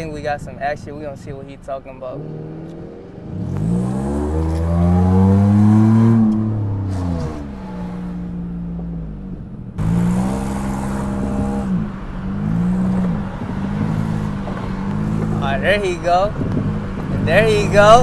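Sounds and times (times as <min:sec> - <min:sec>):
car engine accelerating: 0:02.0 - 0:18.0.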